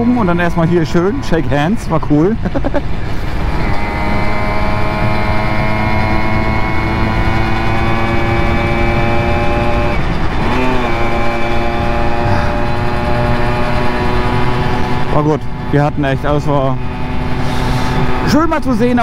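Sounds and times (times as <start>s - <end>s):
moped engine running: 0.0s - 19.0s.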